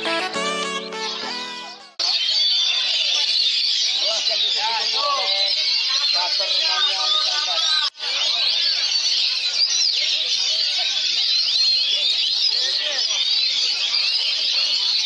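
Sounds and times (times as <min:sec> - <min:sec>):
chorus of songbirds singing: 0:01.1 - 0:15.0.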